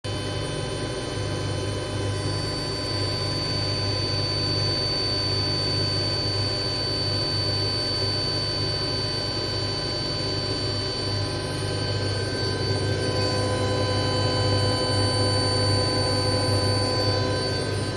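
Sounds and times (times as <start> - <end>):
high-pitched whine: 0.1 - 17.9.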